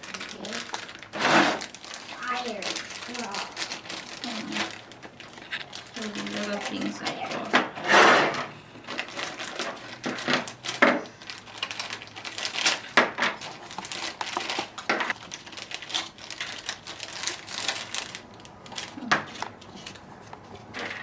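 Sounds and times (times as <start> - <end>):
plastic packaging rustling: 0.0 - 21.0.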